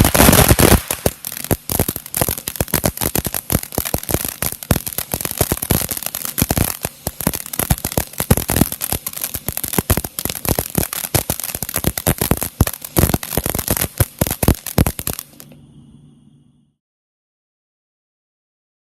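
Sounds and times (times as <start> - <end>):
rattle of small sharp pops: 0.0 - 15.5
firework fountain hissing: 0.0 - 15.6.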